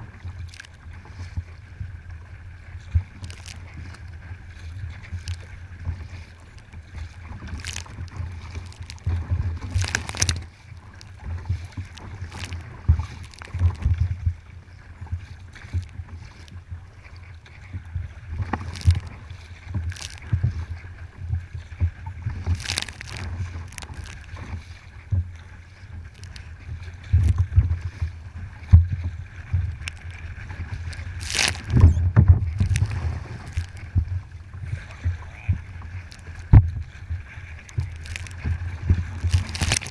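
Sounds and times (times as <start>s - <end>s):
paddle blades splashing: 0.0s - 39.9s
water lapping against hull: 0.0s - 39.9s
wind rumble on microphone: 0.0s - 39.9s.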